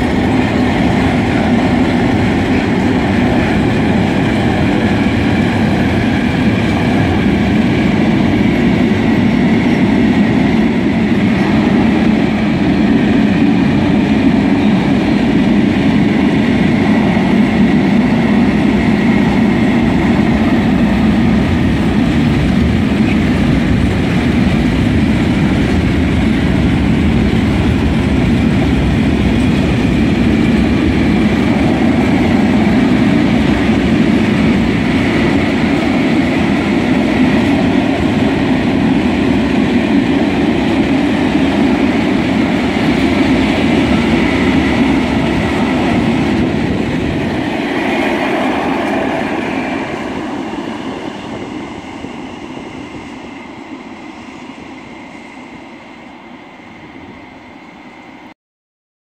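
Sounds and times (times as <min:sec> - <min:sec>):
freight train wheels rumbling on rails: 0:00.0 - 0:58.3.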